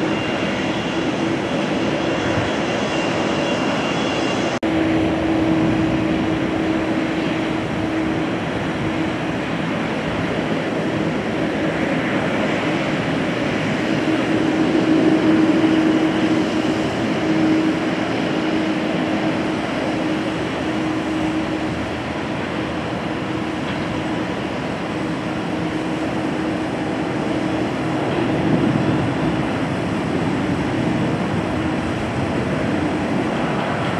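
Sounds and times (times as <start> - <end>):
jet engines droning: 0.0 - 33.9.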